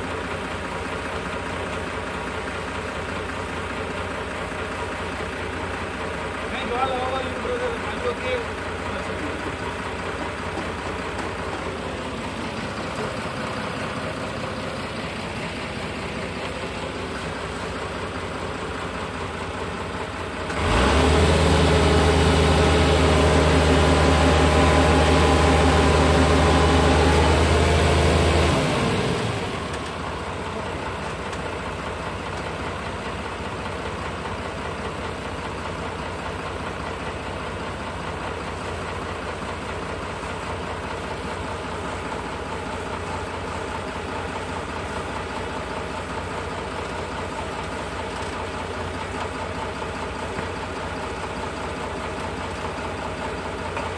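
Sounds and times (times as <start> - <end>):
lift engine idling and revving: 0.0 - 53.9.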